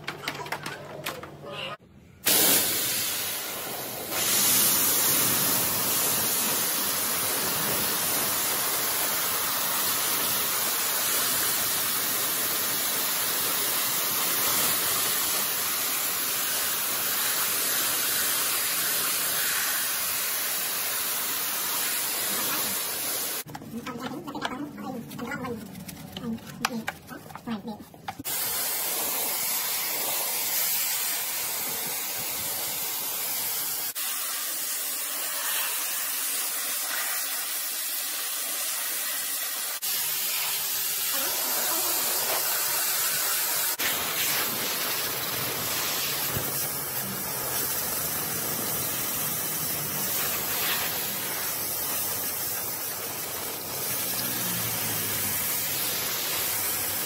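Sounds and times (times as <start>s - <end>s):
water spray jet hissing: 2.2s - 23.5s, 25.6s - 57.0s.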